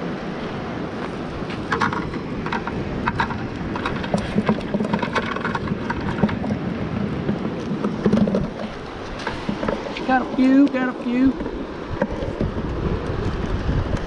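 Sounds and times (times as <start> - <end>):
surf: 0.0 - 14.0
wind buffeting microphone: 0.0 - 14.0.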